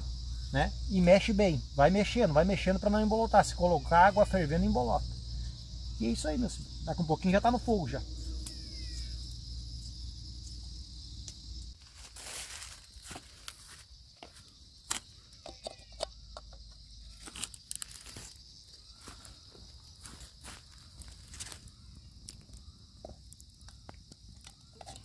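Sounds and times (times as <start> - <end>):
night insects chirping: 0.0 - 25.0.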